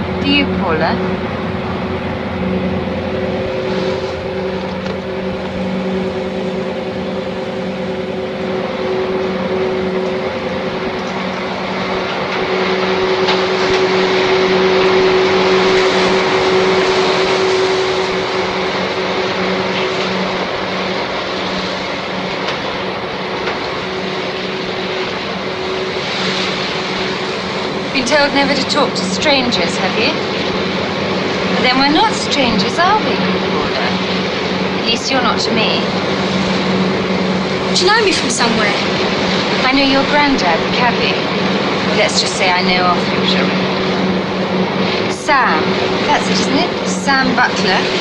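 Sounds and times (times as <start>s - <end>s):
boat engines droning: 0.0s - 48.0s
rushing noise: 0.0s - 48.0s.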